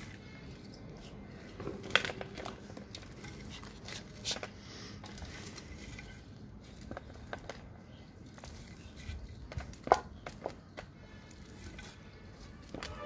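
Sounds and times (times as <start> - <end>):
soil rustling and crunching: 0.0 - 13.0.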